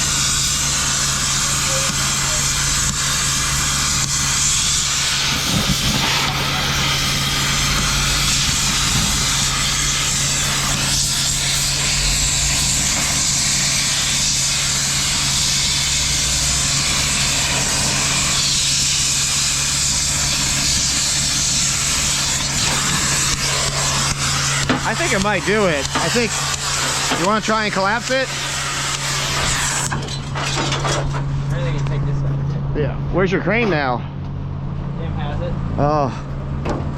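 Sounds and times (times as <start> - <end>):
loud machinery hiss: 0.0 - 31.1.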